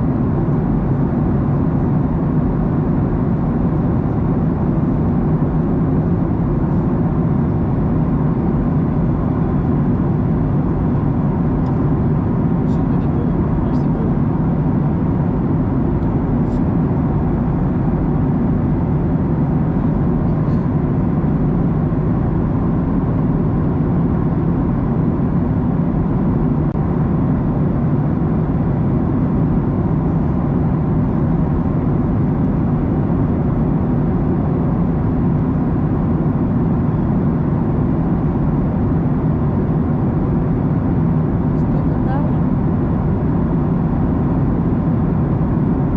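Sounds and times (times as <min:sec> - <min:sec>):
airplane cabin engine drone: 0:00.0 - 0:45.9.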